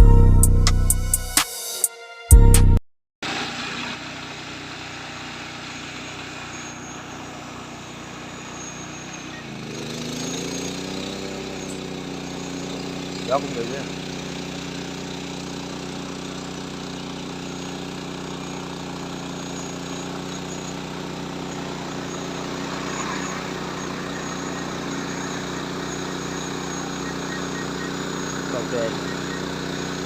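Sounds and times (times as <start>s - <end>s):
drone rotors humming: 4.7s - 30.0s.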